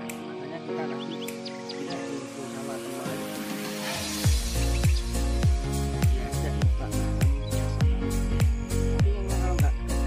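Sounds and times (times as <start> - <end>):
music of sustained chords: 0.0 - 10.0.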